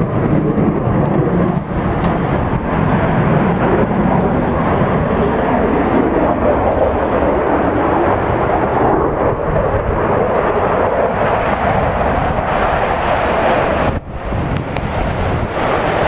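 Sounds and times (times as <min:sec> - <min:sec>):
jet roar: 0:00.0 - 0:16.0.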